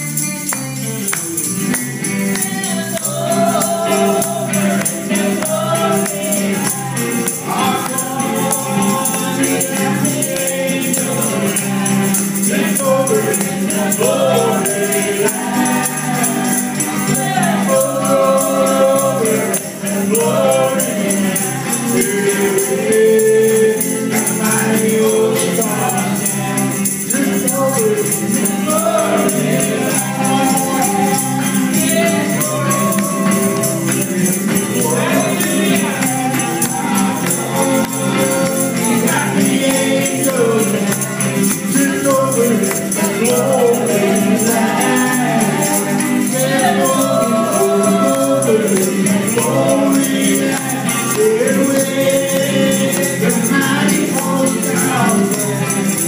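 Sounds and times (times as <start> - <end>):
amplified electric guitar: 0.0 - 56.0
people singing gospel song: 0.0 - 56.0.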